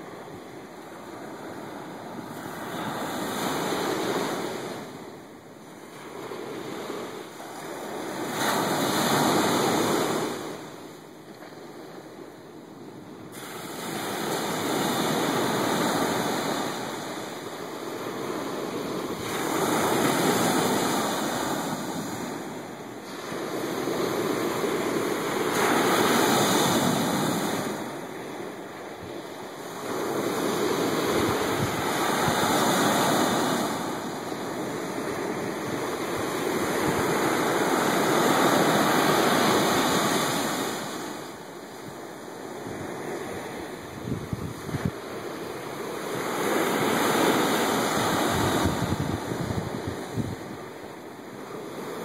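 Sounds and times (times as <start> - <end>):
surf breaking on a beach: 0.0 - 52.0.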